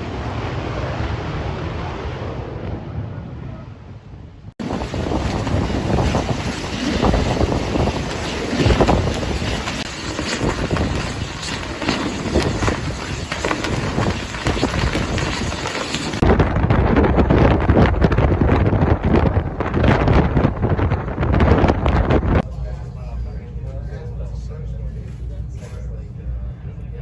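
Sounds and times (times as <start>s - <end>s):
wind buffeting a microphone: 0.0s - 22.7s.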